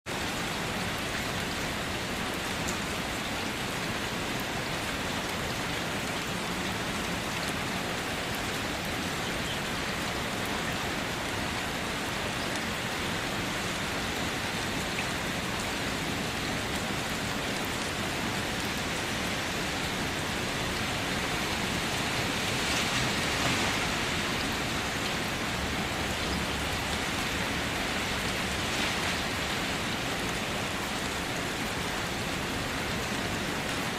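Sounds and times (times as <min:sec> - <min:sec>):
light rain pattering: 0:00.1 - 0:33.9.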